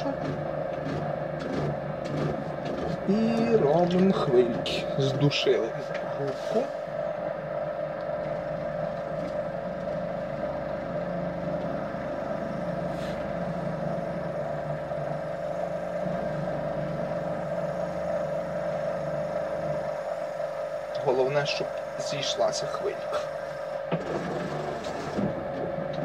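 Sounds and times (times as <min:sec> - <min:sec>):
potter's wheel motor humming: 0:00.0 - 0:26.0.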